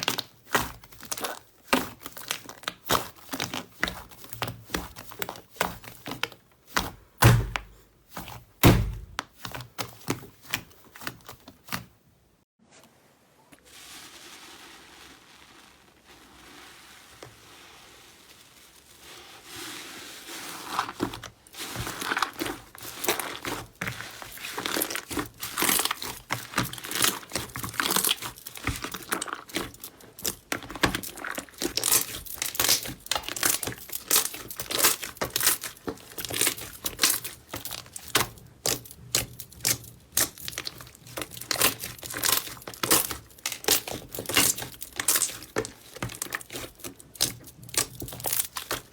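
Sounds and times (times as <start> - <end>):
slime squeezed wet crackles: 0.0 - 11.9, 20.7 - 48.9.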